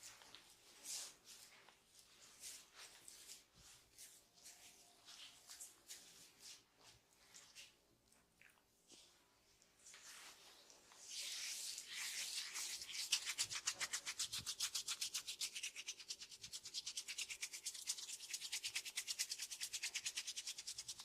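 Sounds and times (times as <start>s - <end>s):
hands rubbing hair and scalp: 0.0s - 7.8s, 9.8s - 21.0s.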